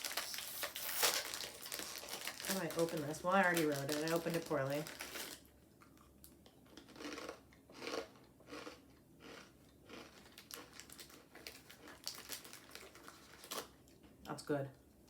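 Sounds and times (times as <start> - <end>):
person chewing crunchy chips: 0.0 - 14.1.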